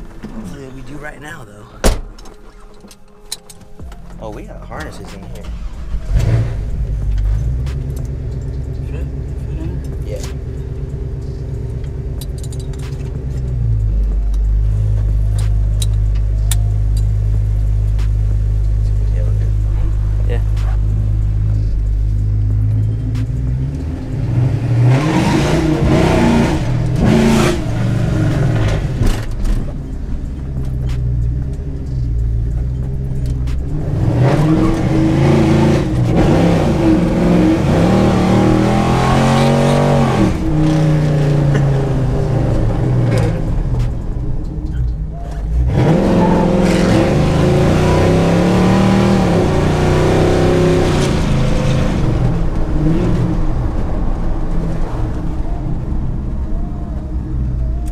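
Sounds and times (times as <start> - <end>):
truck engine accelerating hard: 3.8 - 57.9.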